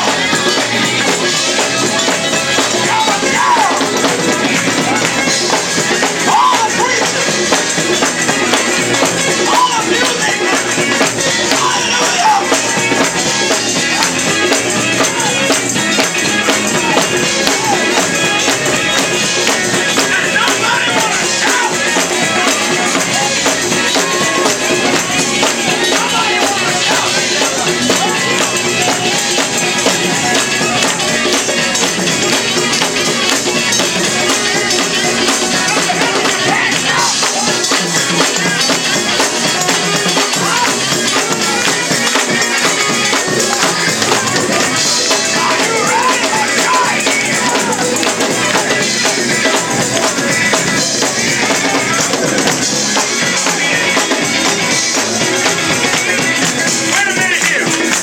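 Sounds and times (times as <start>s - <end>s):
gospel band playing: 0.0s - 58.0s
tambourine jingling: 0.0s - 58.0s.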